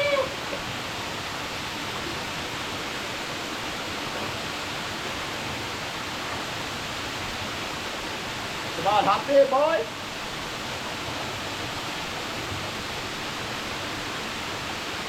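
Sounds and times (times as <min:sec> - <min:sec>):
waterfall pouring into pool: 0:00.0 - 0:15.0.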